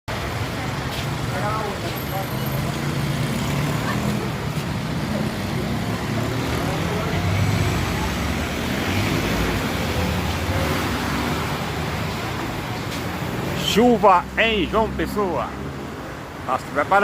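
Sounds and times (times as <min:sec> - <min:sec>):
road traffic rumble: 0:00.1 - 0:17.0.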